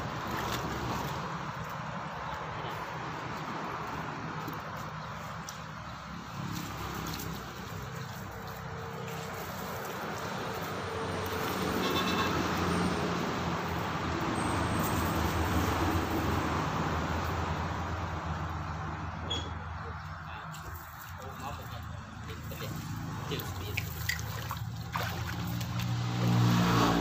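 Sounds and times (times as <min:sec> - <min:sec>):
vehicle passing on road: 0:00.0 - 0:27.0.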